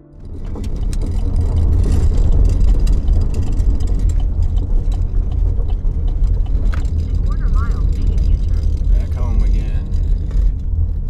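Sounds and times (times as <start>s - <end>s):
car engine and road rumble: 0.0s - 11.0s
clicks and rattles: 0.2s - 10.9s.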